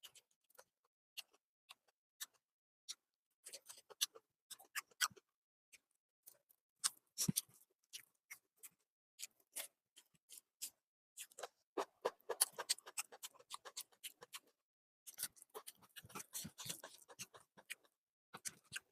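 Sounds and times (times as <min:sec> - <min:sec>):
chewing and lip-smacking: 0:00.0 - 0:18.9.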